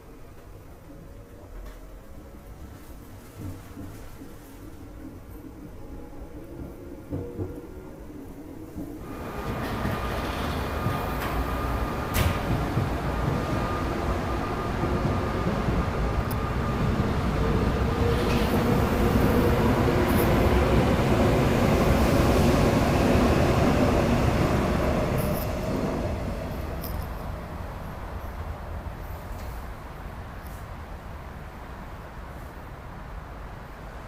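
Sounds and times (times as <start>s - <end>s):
train wheels rumbling on rail: 2.6s - 34.0s.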